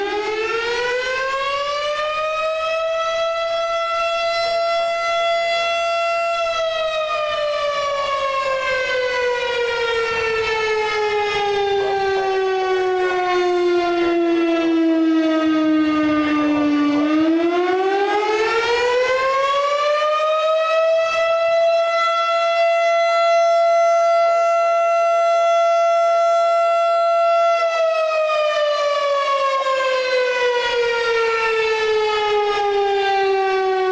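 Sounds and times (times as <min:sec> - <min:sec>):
siren wailing: 0:00.0 - 0:33.9.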